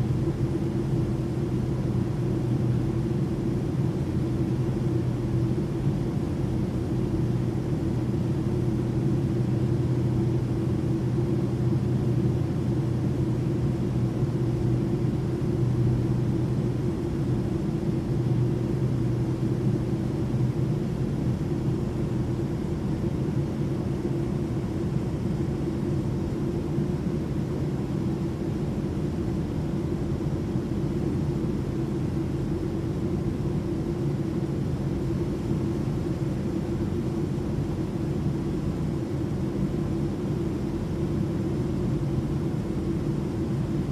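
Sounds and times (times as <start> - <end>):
airplane cabin drone: 0.0 - 43.9.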